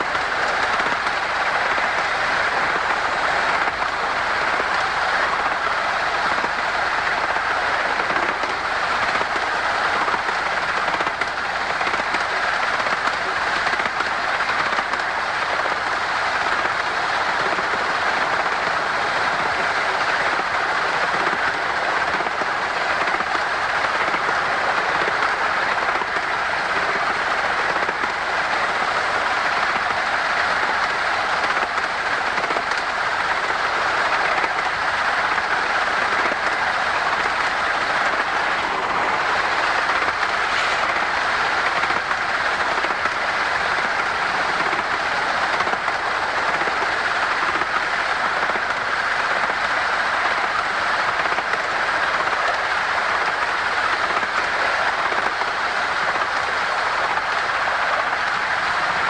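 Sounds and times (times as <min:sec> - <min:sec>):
steam train running on track: 0:00.0 - 0:59.0.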